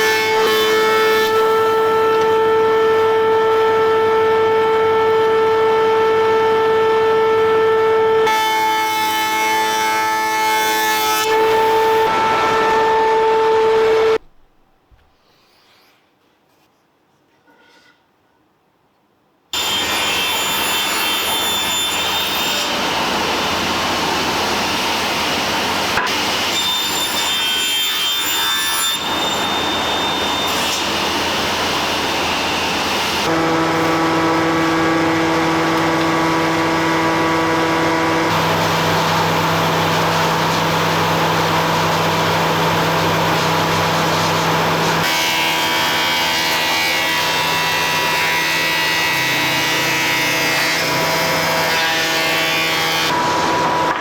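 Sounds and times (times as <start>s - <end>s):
woodworking power tool whining: 0.0s - 14.2s, 19.6s - 54.0s.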